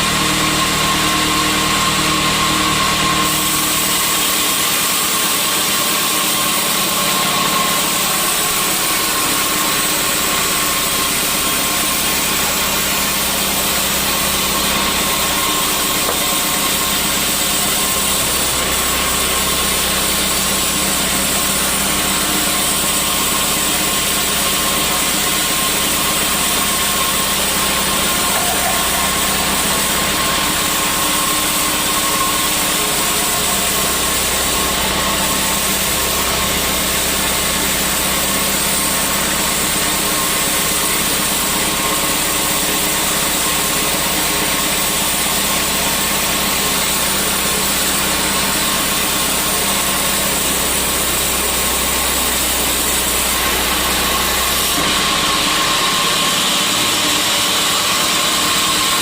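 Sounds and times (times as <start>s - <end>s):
constant machine whine: 0.0s - 59.0s
sawmill machinery drone: 0.0s - 59.0s.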